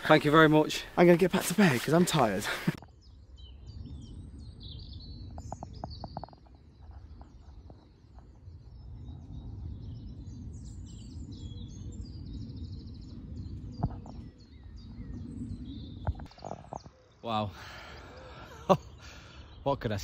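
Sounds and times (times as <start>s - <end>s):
steady low rumble: 0.0s - 16.8s
small birds chirping and singing: 0.0s - 20.0s.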